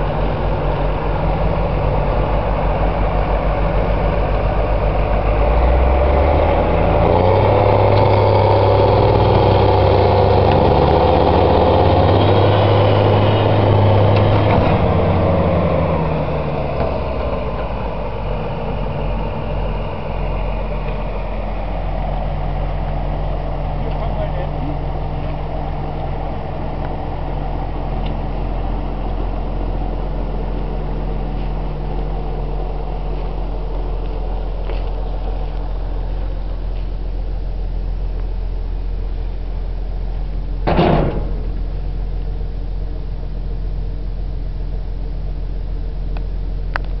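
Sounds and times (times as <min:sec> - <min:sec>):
diesel engine idling: 0:00.0 - 0:47.0.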